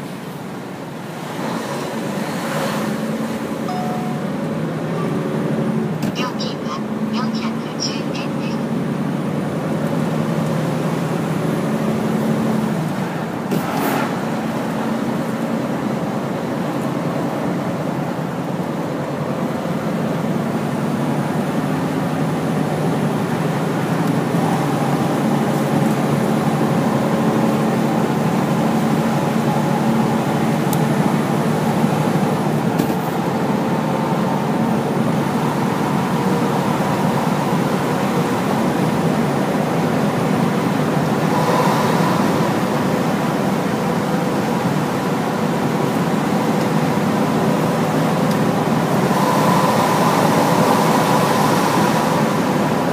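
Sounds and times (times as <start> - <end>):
truck diesel engine driving: 0.0 - 52.9.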